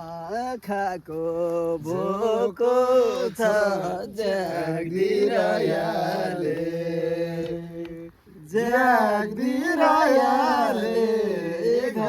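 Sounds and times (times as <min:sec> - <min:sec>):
voices singing unaccompanied: 0:00.0 - 0:12.0.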